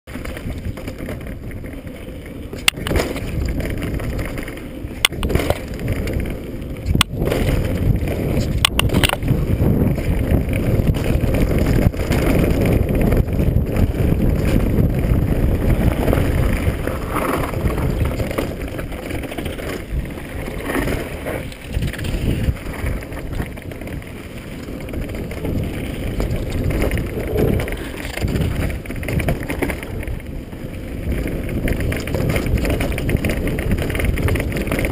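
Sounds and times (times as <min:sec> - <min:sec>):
sharp clacks from bike: 0:00.1 - 0:34.9
tyres on dirt: 0:00.1 - 0:34.9
wind on microphone: 0:00.1 - 0:34.9.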